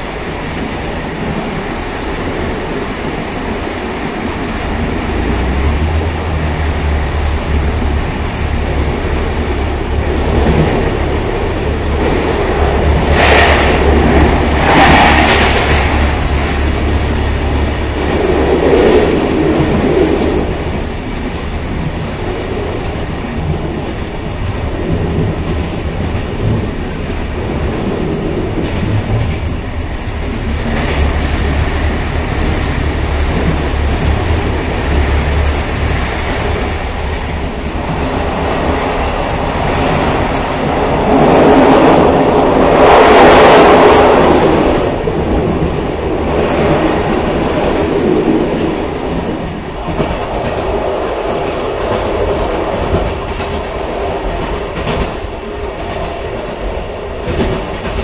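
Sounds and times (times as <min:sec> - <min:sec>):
railcar rumbling on rails: 0:00.0 - 0:58.0
wheels clickety-clack: 0:00.0 - 0:58.0.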